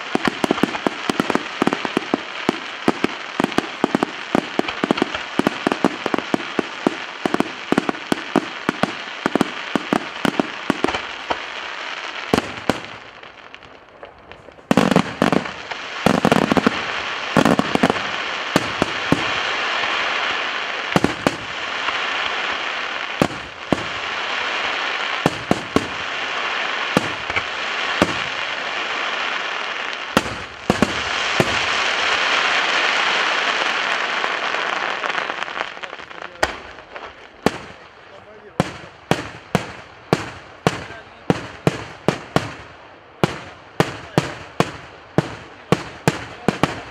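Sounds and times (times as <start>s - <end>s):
fireworks bangs: 0.0s - 46.9s
fireworks crackle: 0.0s - 46.9s.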